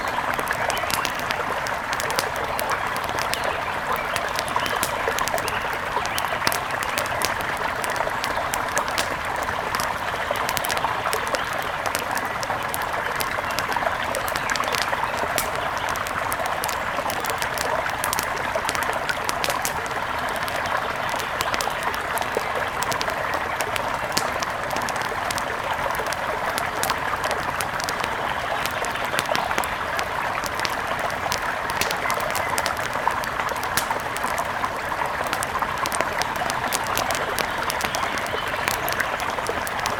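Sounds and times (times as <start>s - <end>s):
river water flowing: 0.0s - 39.9s
wood fire crackling: 0.0s - 39.9s.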